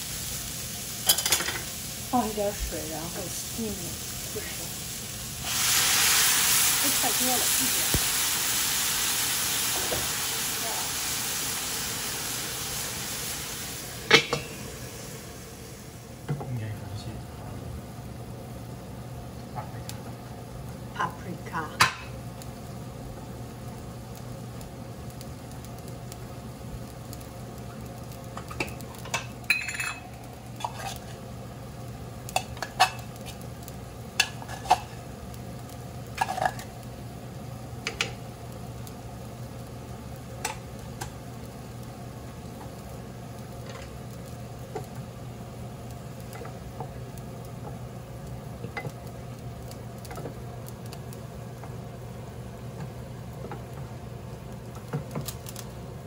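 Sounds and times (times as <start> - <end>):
vegetables sizzling in a skillet: 0.0 - 56.0.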